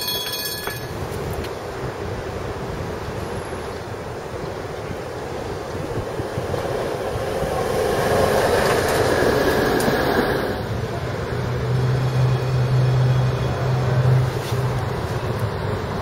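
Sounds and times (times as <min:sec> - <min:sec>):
streetcar rolling on rails: 0:00.0 - 0:16.0.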